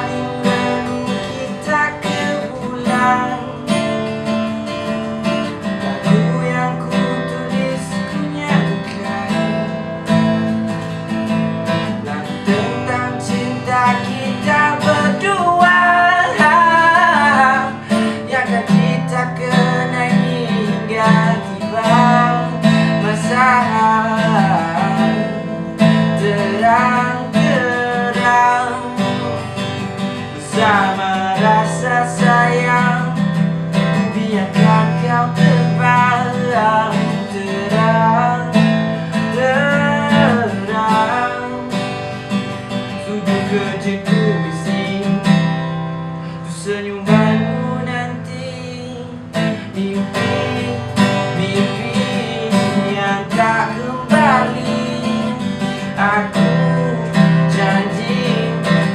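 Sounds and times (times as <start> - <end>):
person singing: 0.0 - 58.9
strummed acoustic guitar: 0.0 - 58.9.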